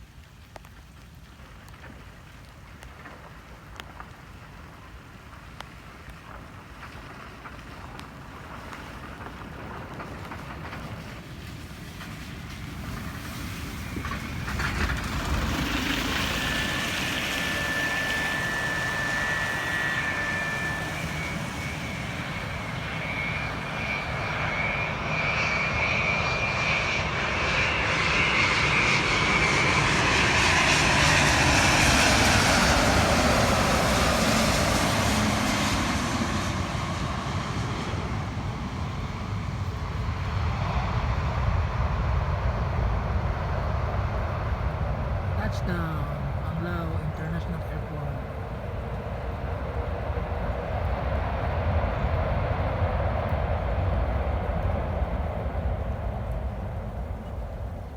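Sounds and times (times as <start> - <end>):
jet engine fan whine: 8.1 - 57.9.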